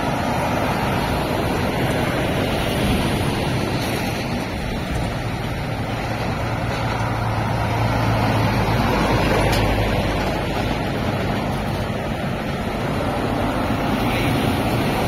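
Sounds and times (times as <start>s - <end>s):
lorry diesel engine pulling away: 0.0s - 15.0s.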